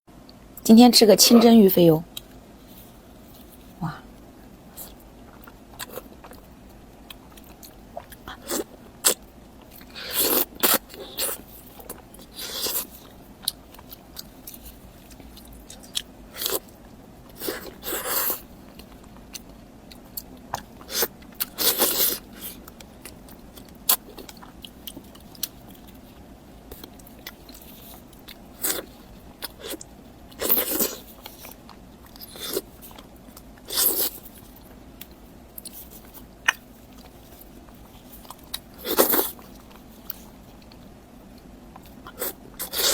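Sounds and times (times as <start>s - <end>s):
person chewing food: 2.1s - 42.9s.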